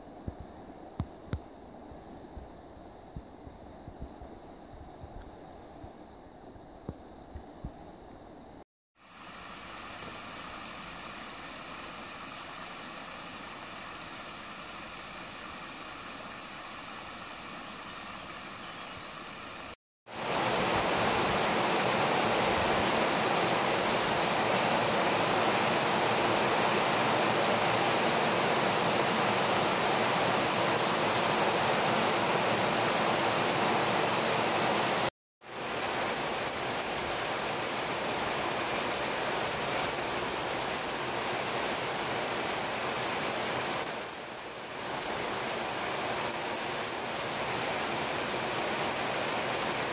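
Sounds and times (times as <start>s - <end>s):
heavy rain hiss: 9.0s - 49.9s
stream running over stones: 9.0s - 49.9s.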